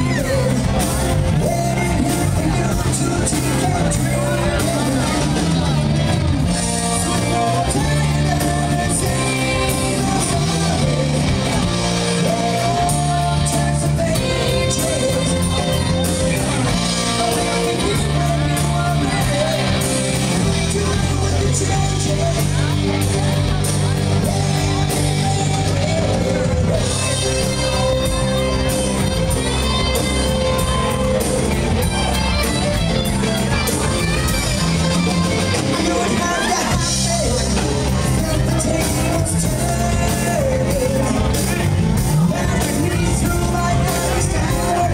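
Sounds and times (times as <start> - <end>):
bass: 0.0 - 44.9
drums: 0.0 - 44.9
electric guitars: 0.0 - 44.9
keyboards: 0.0 - 44.9
man singing into microphone: 0.0 - 44.9.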